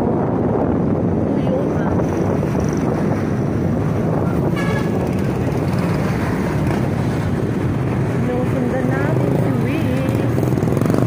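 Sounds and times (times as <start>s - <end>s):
motorcycle road noise: 0.0s - 11.0s
wind rush: 0.0s - 11.0s.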